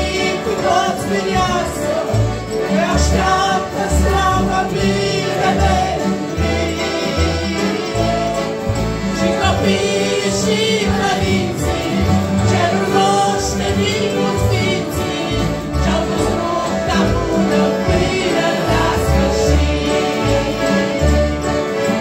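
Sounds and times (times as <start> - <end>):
accordions playing: 0.0 - 22.0
acoustic guitars: 0.0 - 22.0
group of people singing: 0.0 - 22.0.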